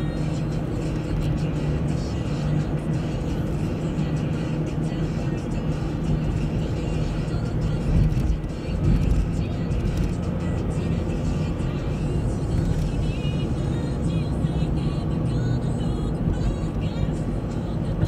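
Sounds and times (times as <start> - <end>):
car engine drone: 0.0 - 18.0.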